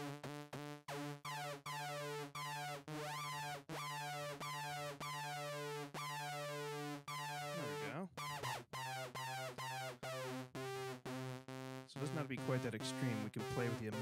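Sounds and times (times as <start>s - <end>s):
synthesizer repeated notes: 0.0s - 14.0s.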